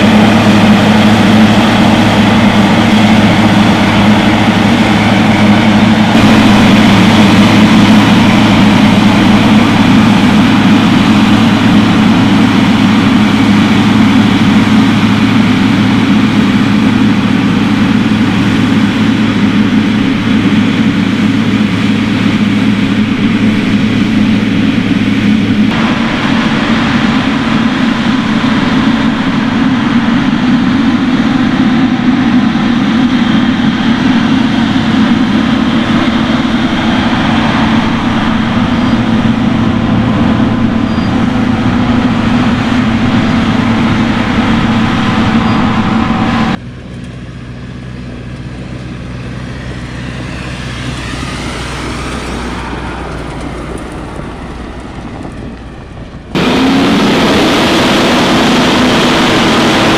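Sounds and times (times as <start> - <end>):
quieter machine sound: 0.0 - 46.6, 56.3 - 59.9
heavy diesel machinery running: 0.0 - 59.9.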